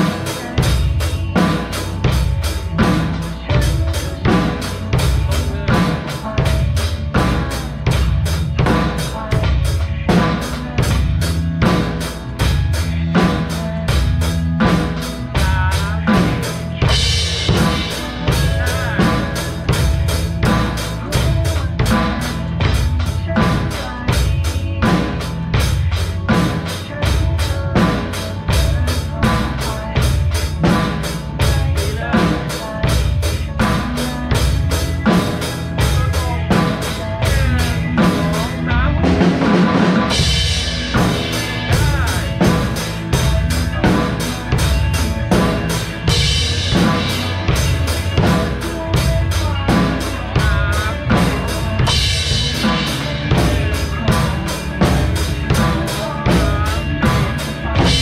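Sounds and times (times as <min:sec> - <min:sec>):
drum kit rock beat: 0:00.0 - 0:58.0
recorded pop song: 0:00.0 - 0:58.0.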